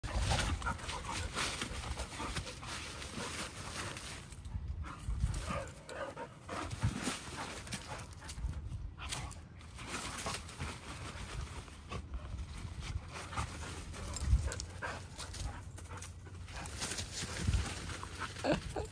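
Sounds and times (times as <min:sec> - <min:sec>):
dogs panting and sniffing: 0:00.0 - 0:18.9
leaves and branches rustling: 0:00.0 - 0:18.9.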